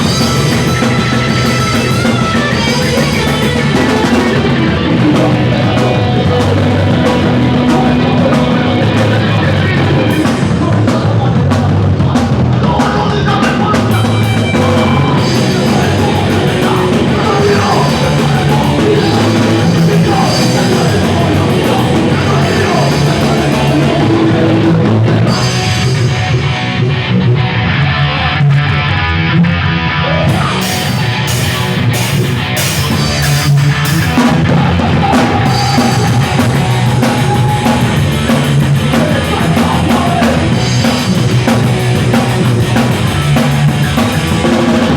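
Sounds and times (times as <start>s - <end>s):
punk band playing live: 0.0s - 44.9s.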